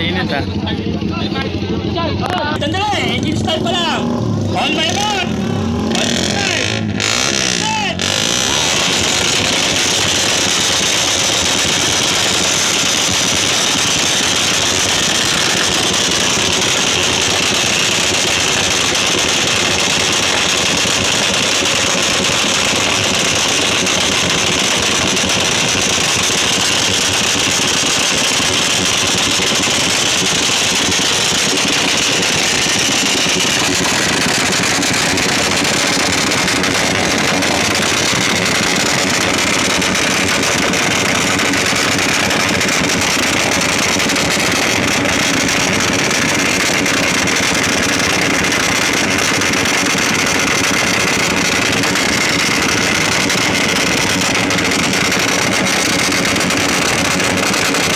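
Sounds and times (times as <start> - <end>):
motorcycle engines at full revs: 0.0 - 57.9.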